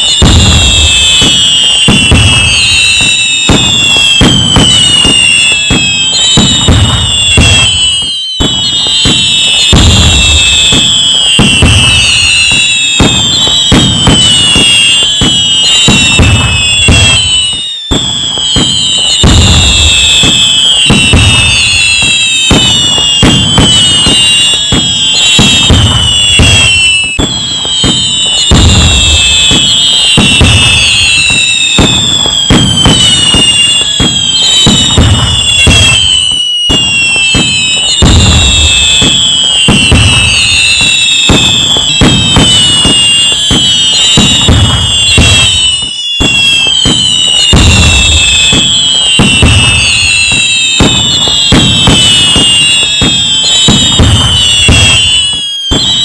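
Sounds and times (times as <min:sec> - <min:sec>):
fireworks bangs and crackling: 0:00.0 - 0:56.0
whistling firework shells: 0:00.0 - 0:56.0.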